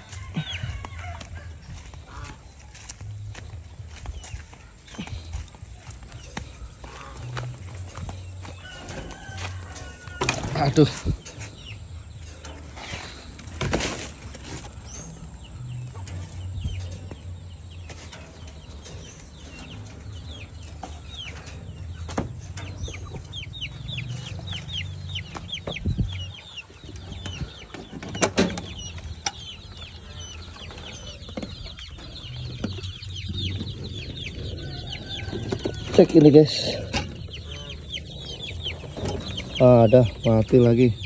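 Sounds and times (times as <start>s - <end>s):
chicks peeping: 0.0s - 41.0s.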